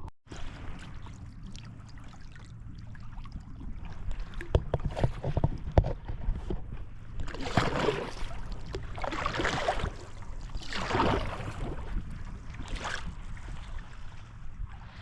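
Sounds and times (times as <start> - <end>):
wind rumble on microphone: 0.0 - 15.0
paddle water splashes: 0.3 - 15.0.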